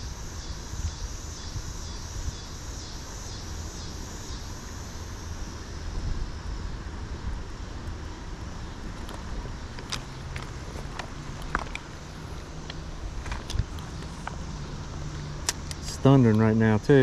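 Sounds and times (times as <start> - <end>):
wind rumble on microphone: 0.0 - 15.0
insects trilling: 0.0 - 17.0.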